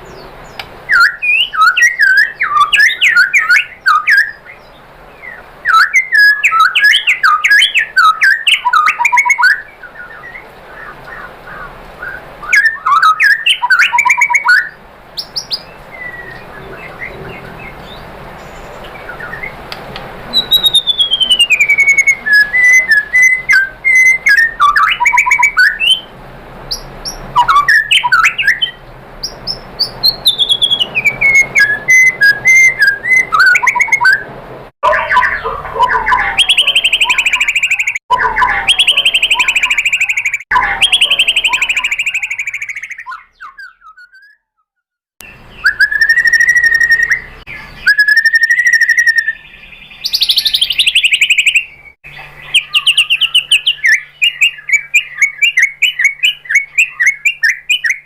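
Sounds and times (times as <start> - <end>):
bird singing whistles and trills: 0.0 - 11.3, 12.0 - 19.6, 20.3 - 26.1, 26.7 - 34.3, 34.9 - 58.0.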